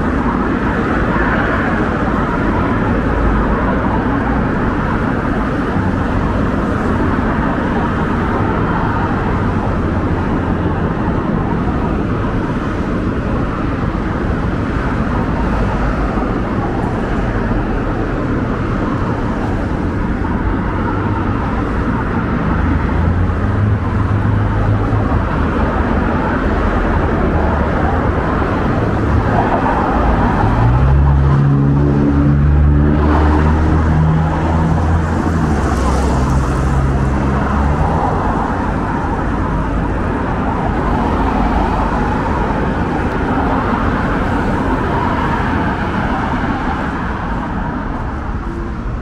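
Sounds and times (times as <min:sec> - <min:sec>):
cars passing: 0:00.0 - 0:49.0
low engine hum: 0:00.0 - 0:49.0.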